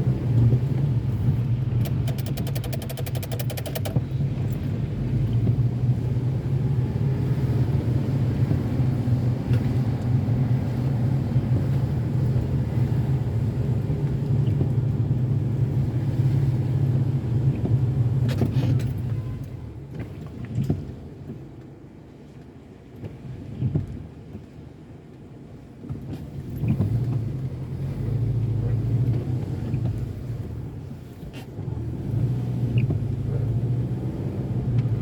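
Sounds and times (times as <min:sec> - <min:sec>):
car engine rumble: 0:00.0 - 0:35.0
road noise: 0:00.0 - 0:35.0.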